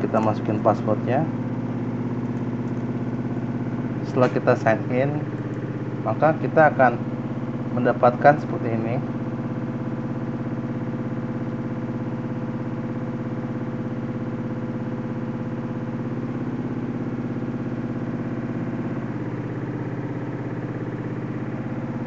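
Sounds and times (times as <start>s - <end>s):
low mechanical drone: 0.0s - 22.0s.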